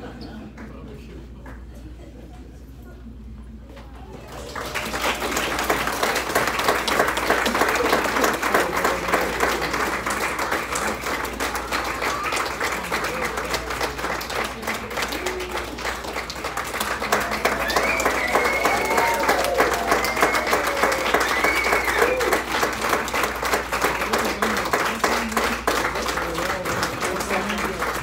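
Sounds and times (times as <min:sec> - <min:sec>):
audience clapping: 0:00.0 - 0:01.8, 0:03.9 - 0:28.0.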